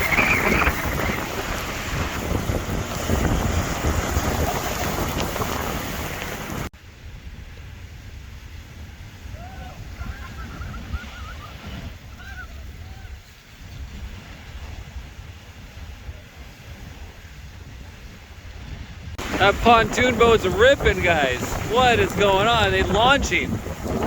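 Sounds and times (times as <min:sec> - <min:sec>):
quieter wind: 0:00.0 - 0:24.0
strong wind buffeting microphone: 0:00.0 - 0:24.0.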